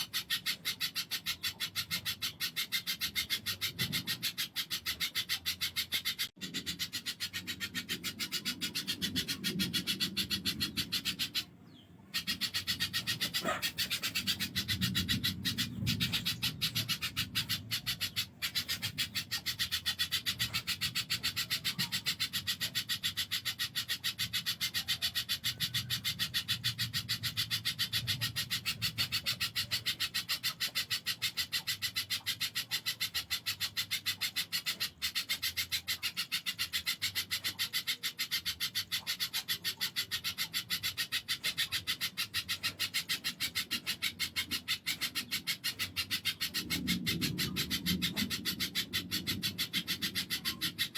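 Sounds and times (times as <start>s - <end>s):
bird calling harsh chips: 0.0s - 50.9s.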